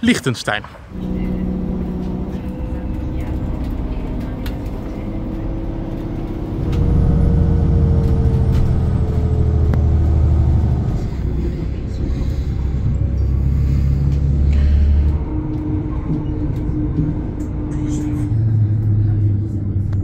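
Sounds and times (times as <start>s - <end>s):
vehicle engine running: 0.9s - 20.0s
faint whine gliding down: 1.0s - 19.9s.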